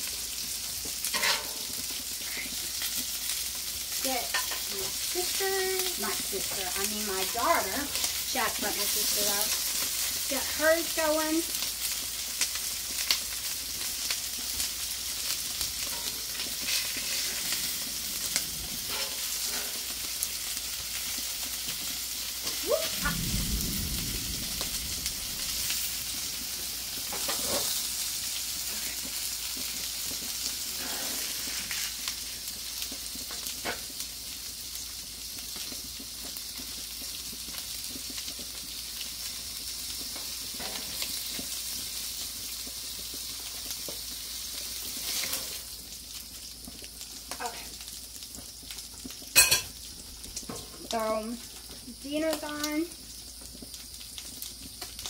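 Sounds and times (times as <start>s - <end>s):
food sizzling on a griddle: 0.0s - 55.0s.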